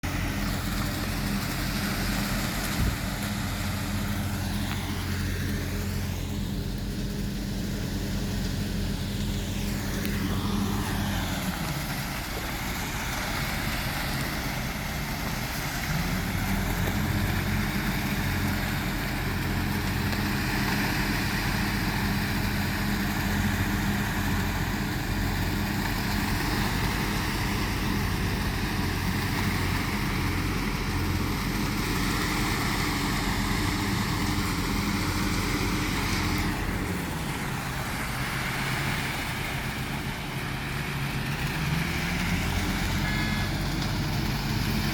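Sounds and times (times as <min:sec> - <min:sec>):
heavy vehicle engine running: 0:00.0 - 0:44.9.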